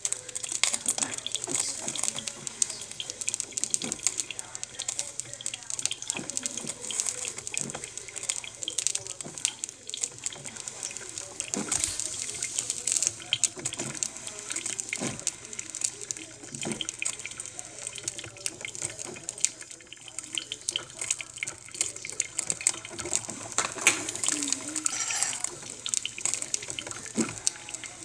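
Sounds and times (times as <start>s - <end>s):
coffee maker gurgling: 0.0s - 28.0s
little crackles and pops: 0.0s - 28.0s
steady hiss: 0.0s - 28.0s.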